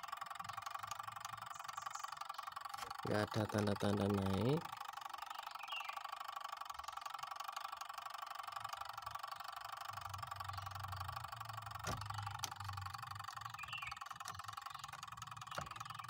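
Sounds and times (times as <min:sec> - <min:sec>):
high background hum: 0:00.0 - 0:16.0.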